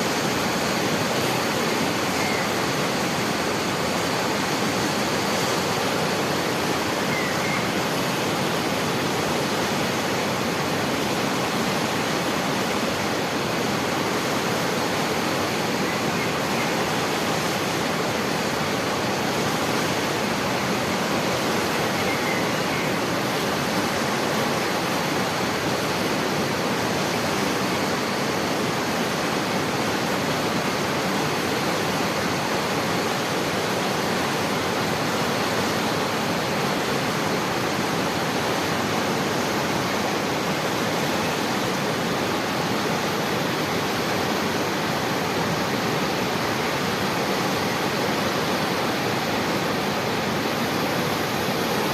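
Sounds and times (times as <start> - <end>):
rushing water roar: 0.0 - 51.9.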